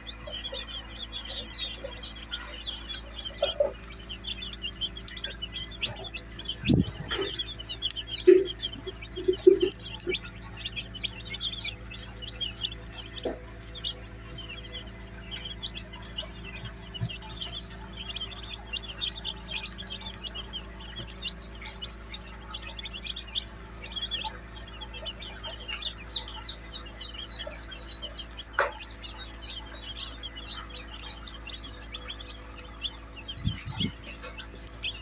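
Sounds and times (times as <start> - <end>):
chicks peeping: 0.0 - 35.0
steady low hum: 0.0 - 35.0.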